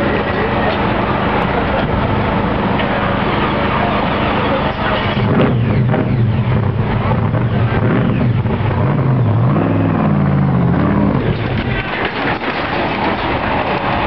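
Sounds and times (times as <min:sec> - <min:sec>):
hot rod engine revving: 0:00.0 - 0:14.0.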